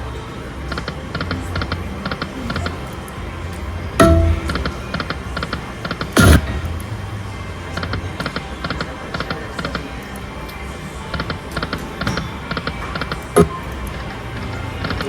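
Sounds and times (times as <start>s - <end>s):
low casino hum: 0.0s - 15.0s.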